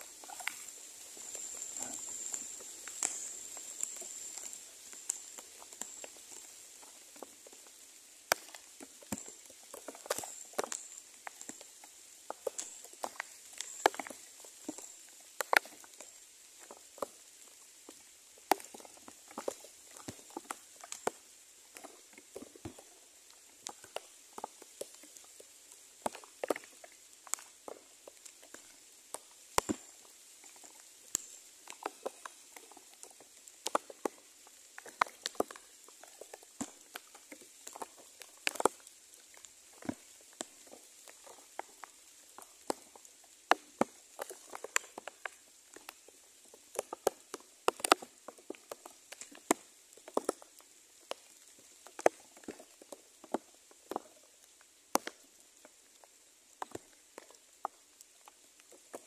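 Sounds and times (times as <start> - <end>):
faint high-pitched hiss: 0.0 - 59.0.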